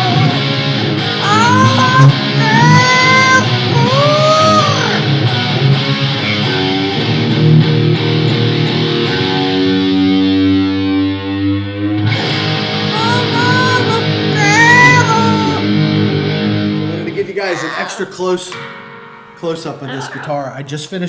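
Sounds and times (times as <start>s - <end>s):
distorted electric guitar: 0.0s - 17.1s
rock music: 0.0s - 17.4s.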